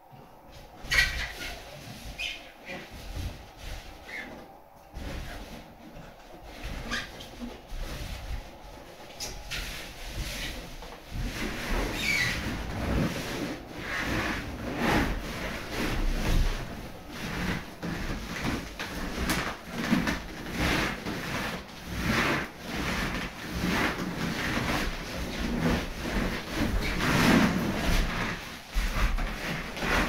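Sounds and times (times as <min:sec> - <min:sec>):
balloons rubbing together: 0:00.5 - 0:30.0.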